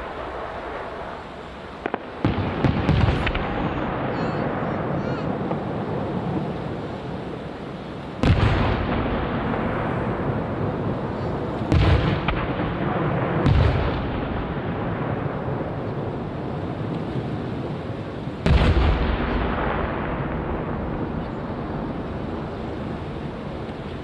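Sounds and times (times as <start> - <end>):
continuous rumble: 0.0 - 24.0
fireworks booming: 0.0 - 24.0.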